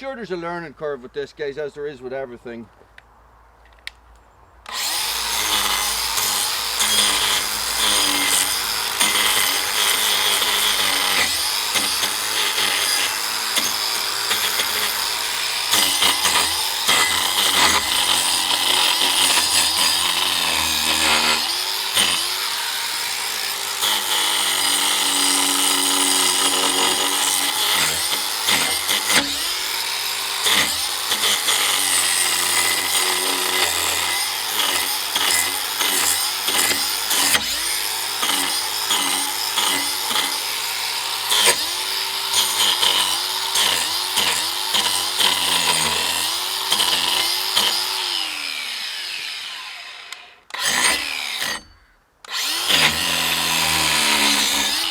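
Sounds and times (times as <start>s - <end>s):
angle grinder cutting wood: 4.7s - 54.9s.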